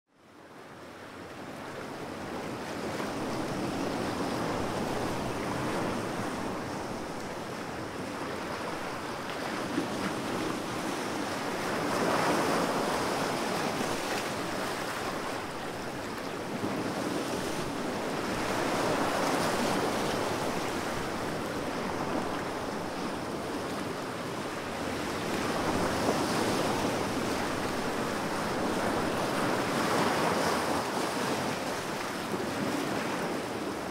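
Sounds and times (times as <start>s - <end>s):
ocean surf breaking on beach: 1.0s - 33.9s.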